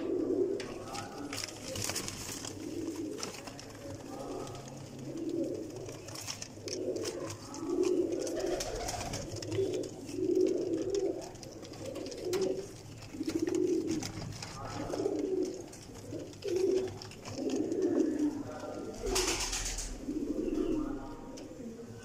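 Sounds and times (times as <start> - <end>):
pigeons cooing: 0.0 - 22.0
light clicks of birds moving: 0.6 - 21.6.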